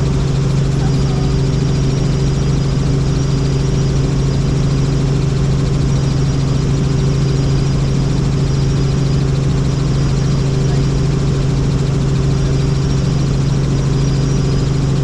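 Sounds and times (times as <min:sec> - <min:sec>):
helicopter rotor and engine drone: 0:00.0 - 0:15.0.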